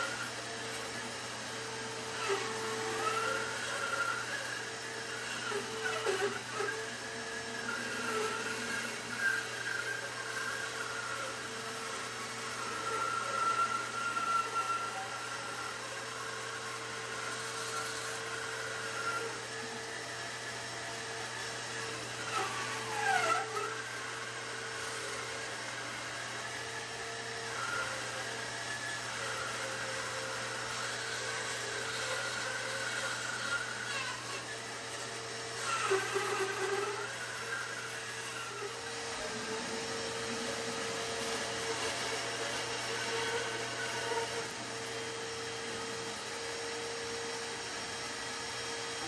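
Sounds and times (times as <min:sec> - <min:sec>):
bandsaw motor hum: 0:00.0 - 0:49.0
saw blade whine in wood: 0:00.0 - 0:49.0.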